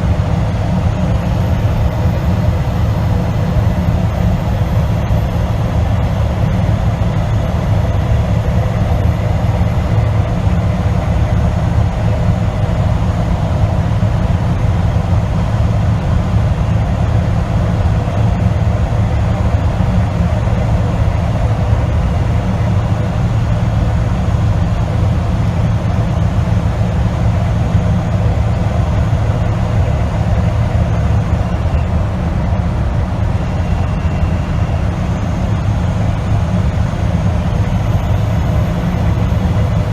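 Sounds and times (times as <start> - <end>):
truck diesel engine and road noise: 0.0 - 39.9.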